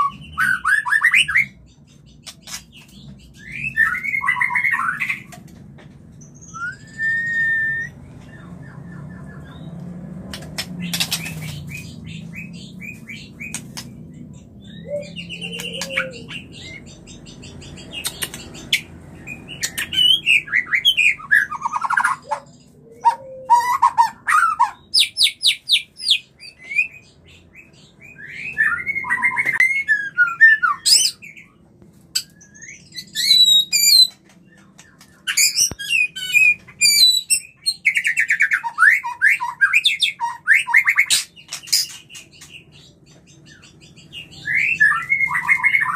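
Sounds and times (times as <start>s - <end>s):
songbird whistles and trills: 0.0s - 5.4s, 6.1s - 9.8s, 10.8s - 18.8s, 19.5s - 45.9s.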